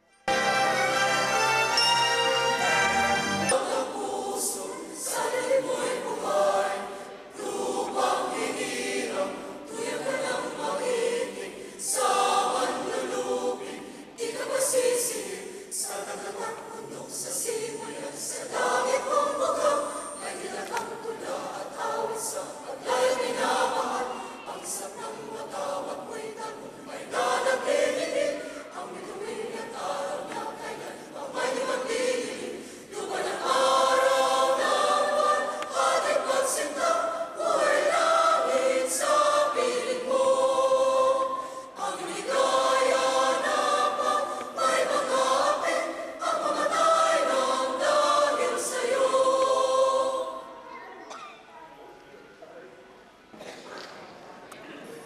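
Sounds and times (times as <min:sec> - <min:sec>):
mixed choir singing: 0:00.2 - 0:50.7.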